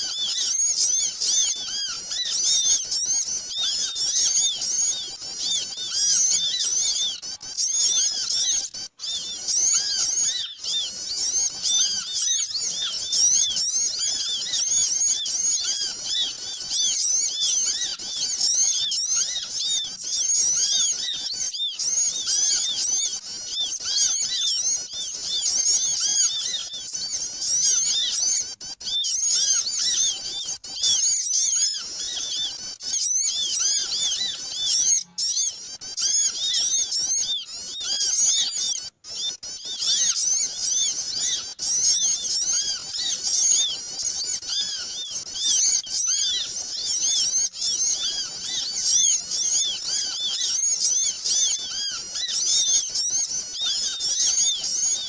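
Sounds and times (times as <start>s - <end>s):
many small birds chirping: 0.0s - 55.0s.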